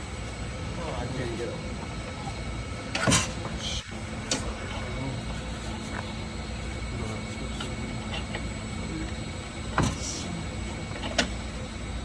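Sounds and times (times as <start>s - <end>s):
repair shop hum: 0.0s - 12.0s.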